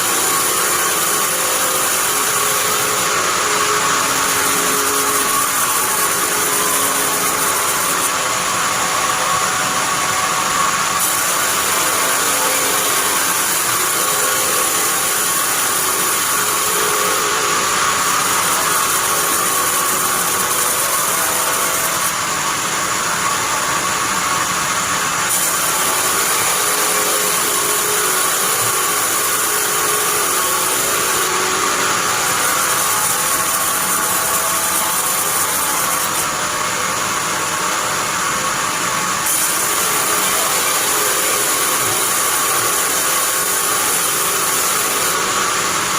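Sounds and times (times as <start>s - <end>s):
bandsaw sawing wood: 0.0s - 8.4s, 11.0s - 22.2s, 25.3s - 36.4s, 39.2s - 45.6s.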